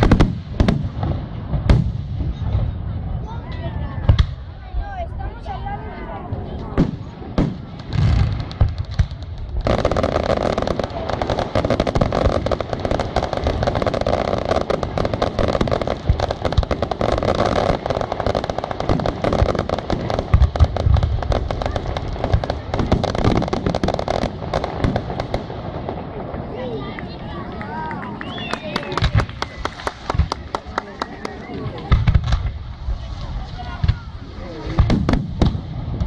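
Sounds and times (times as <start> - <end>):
low firework booms: 0.0 - 4.9, 6.2 - 26.7, 31.5 - 36.0
fireworks crackling: 0.0 - 36.0.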